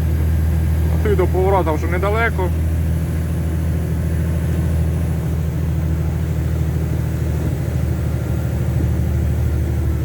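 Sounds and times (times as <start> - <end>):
diesel truck engine droning: 0.0 - 10.0.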